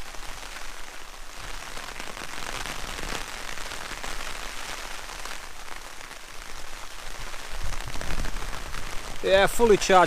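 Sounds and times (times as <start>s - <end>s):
rain pattering on a tent: 0.0s - 10.0s.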